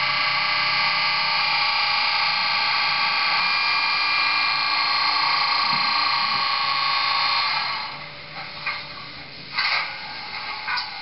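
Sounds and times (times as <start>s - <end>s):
tinny model diesel engine hum: 0.0s - 11.0s.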